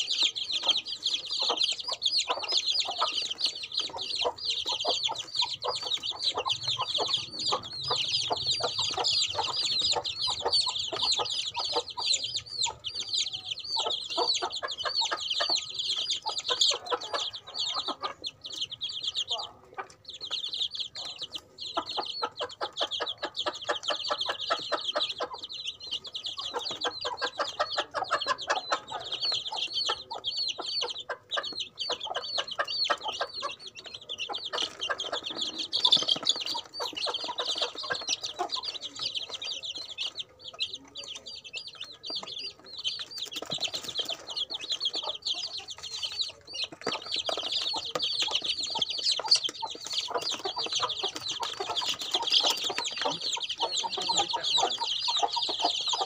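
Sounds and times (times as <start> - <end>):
chicks pecking plastic tray: 0.0 - 56.0
chicks peeping: 0.0 - 56.0.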